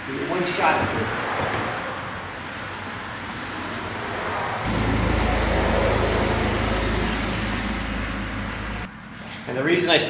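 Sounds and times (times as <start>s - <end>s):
road vehicle passing: 1.0s - 9.2s.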